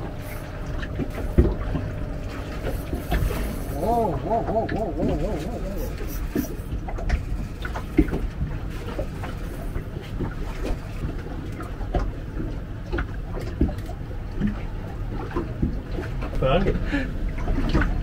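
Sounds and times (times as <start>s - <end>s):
water lapping against boat hull: 0.0s - 18.0s.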